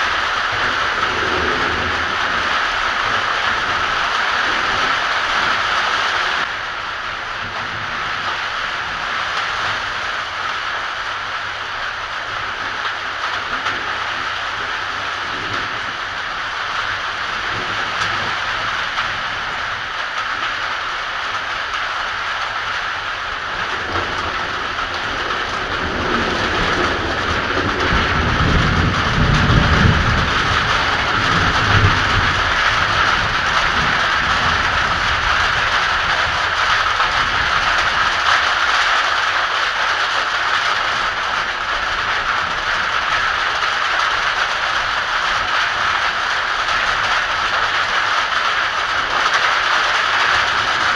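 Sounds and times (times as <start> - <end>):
low rumble of thunder: 0.0 - 6.5, 12.1 - 20.7, 23.2 - 38.8, 40.2 - 50.9
heavy rain pouring: 0.0 - 50.9.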